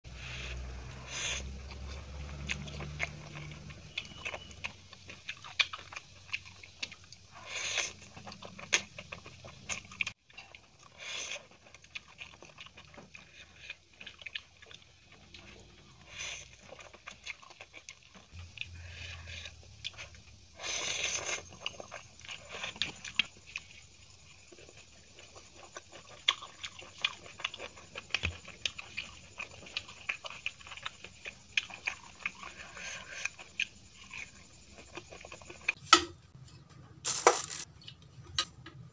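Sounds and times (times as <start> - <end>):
wet chewing and slurping: 0.1 - 35.8.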